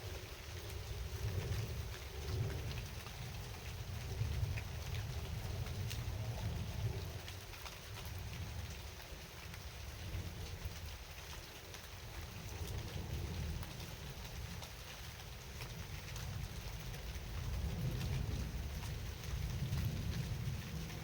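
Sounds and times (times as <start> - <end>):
raindrops ticking: 0.0 - 21.0
steady rain falling: 0.0 - 21.0.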